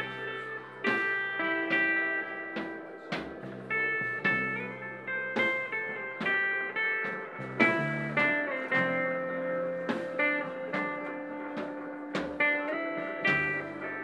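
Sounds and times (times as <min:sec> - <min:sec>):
picked guitar notes ringing: 0:00.0 - 0:14.0.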